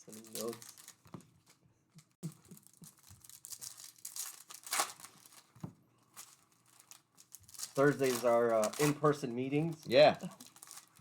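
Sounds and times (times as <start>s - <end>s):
foil wrapper crinkling and tearing: 0.0s - 1.6s, 2.3s - 11.0s.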